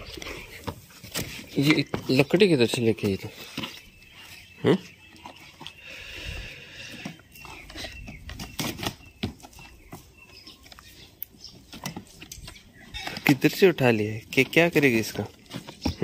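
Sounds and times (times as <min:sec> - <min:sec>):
puppies scuffling: 0:00.0 - 0:16.0.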